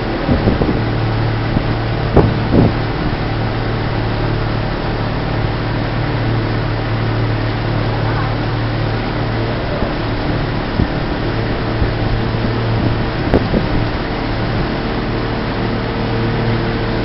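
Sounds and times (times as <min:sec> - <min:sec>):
boat engine humming: 0:00.0 - 0:17.0
wind and water rushing: 0:00.0 - 0:17.0.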